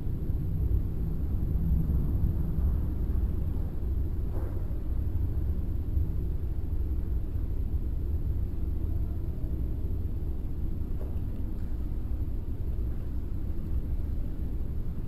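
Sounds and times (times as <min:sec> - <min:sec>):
faint high whine: 0:00.0 - 0:15.0
steady low rumble: 0:00.0 - 0:15.0.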